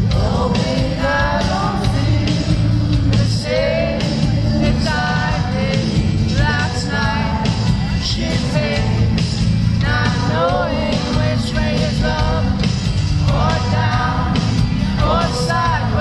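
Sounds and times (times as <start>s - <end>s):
amplified band with heavy bass: 0.0s - 16.0s
man singing: 0.0s - 16.0s.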